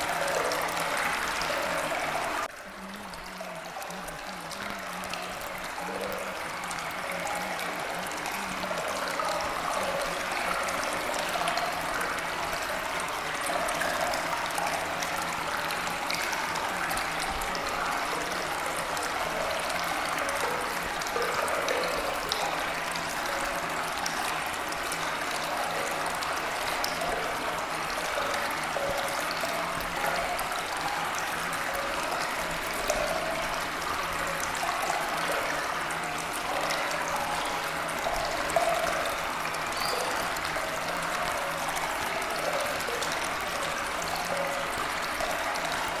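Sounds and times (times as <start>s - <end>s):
stream running water: 0.0s - 46.0s.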